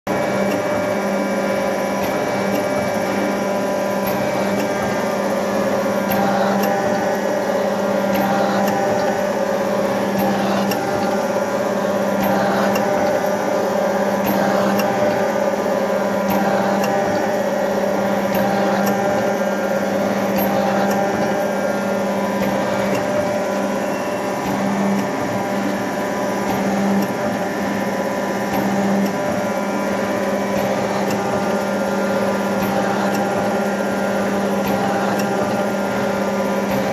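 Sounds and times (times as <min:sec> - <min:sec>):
machine hum: 0:00.1 - 0:36.9.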